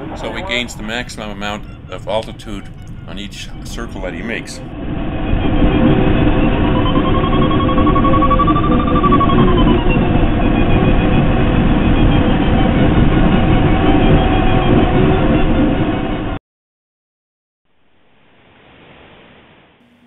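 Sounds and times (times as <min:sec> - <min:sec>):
electronic variometer tone: 0:00.0 - 0:16.3, 0:19.8 - 0:20.0.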